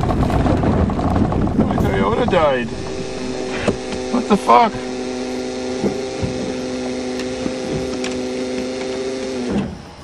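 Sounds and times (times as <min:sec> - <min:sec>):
car starter motor whirring: 0:01.1 - 0:10.0.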